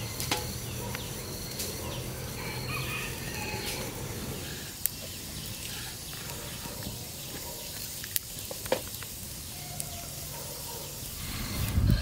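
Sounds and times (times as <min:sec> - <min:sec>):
fire crackling and popping: 0:00.0 - 0:12.0
wood fire hissing: 0:00.0 - 0:12.0.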